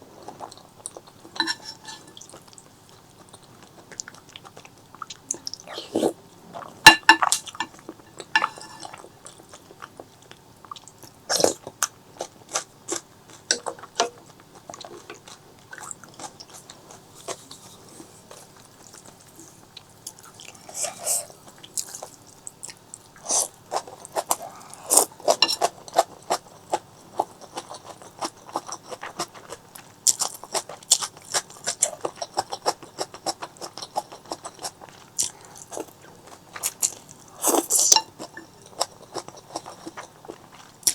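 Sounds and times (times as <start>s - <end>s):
close-up chewing and crunching: 0.0s - 40.9s.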